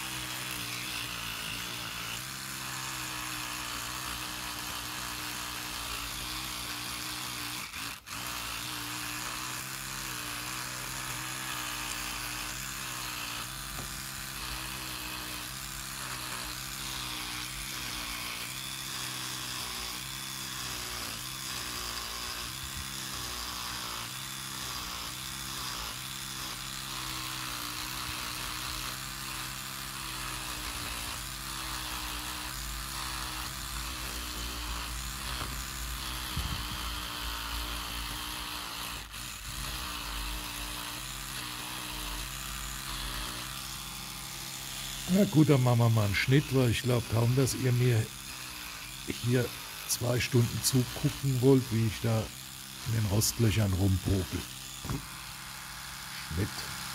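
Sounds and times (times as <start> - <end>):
electric toothbrush buzzing: 0.0 - 56.9.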